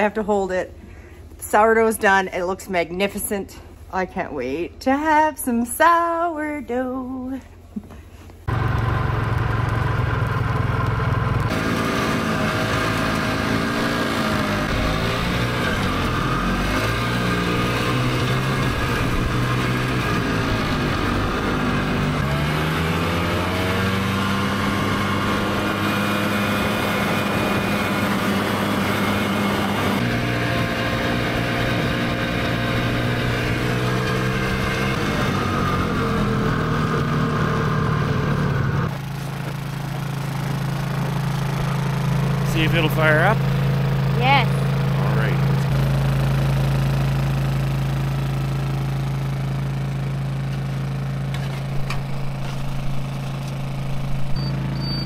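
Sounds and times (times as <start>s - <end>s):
small engine running: 8.5s - 55.0s.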